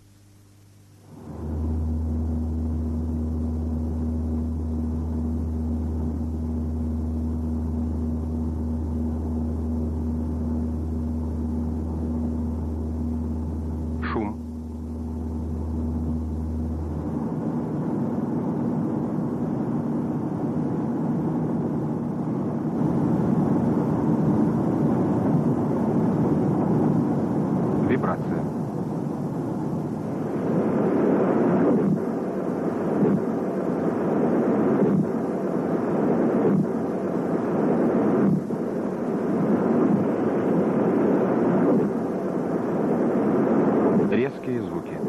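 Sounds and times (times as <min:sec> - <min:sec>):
constant hum: 0:00.0 - 0:45.0
low rumbling drone: 0:00.8 - 0:45.0.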